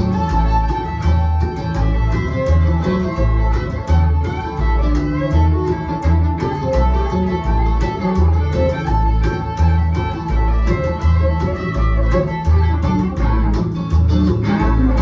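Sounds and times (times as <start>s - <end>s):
bass line: 0.0s - 15.0s
fiddle melody: 0.0s - 15.0s
strummed acoustic guitar: 0.0s - 15.0s.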